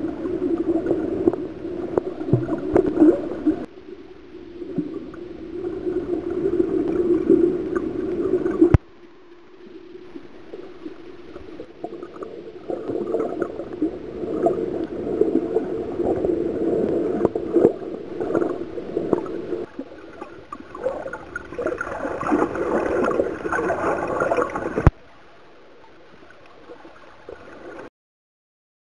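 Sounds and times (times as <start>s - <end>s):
seawater sloshing underwater: 0.0s - 27.9s.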